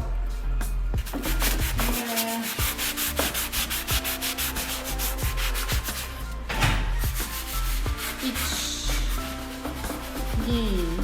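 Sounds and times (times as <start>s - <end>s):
sandpaper rubbing on wood: 1.0s - 6.4s, 7.0s - 11.0s.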